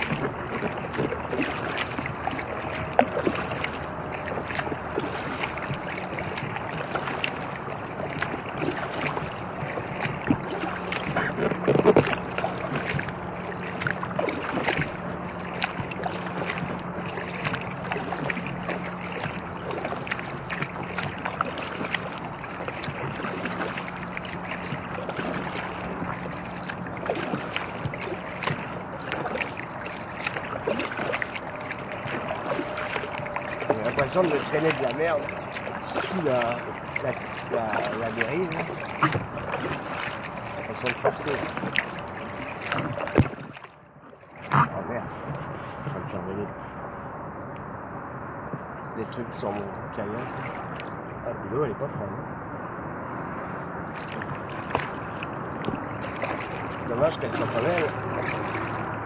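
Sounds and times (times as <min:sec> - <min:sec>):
paddle strokes splashing: 0:00.0 - 0:47.1, 0:48.4 - 0:51.2, 0:53.0 - 0:59.0
low steady hum: 0:00.0 - 0:59.0.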